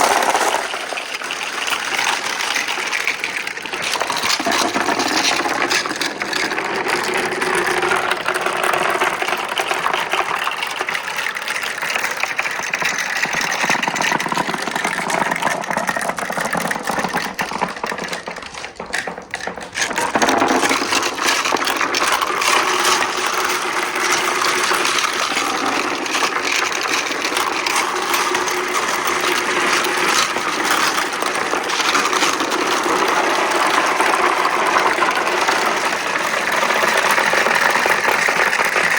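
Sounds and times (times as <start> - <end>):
marbles rattling on wooden run: 0.0 - 38.9.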